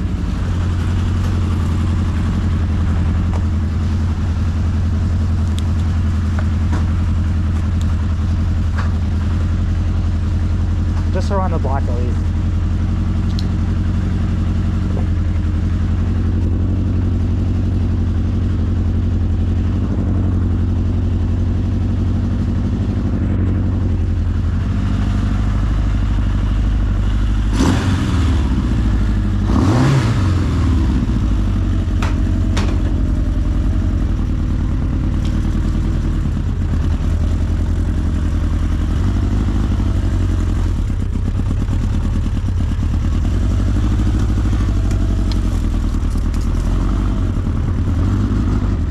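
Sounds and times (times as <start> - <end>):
motorcycle engine running and revving: 0.0 - 48.9.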